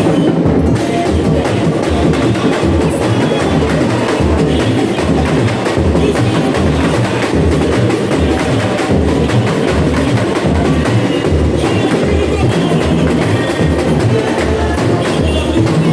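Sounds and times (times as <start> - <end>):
fast higher percussion: 0.0 - 15.9.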